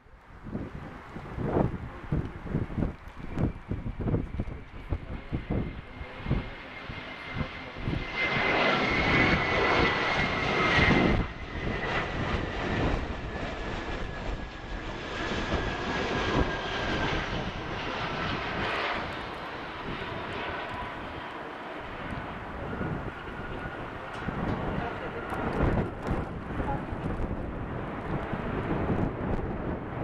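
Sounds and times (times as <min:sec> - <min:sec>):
jet airliner passing on landing: 0:00.1 - 0:30.0.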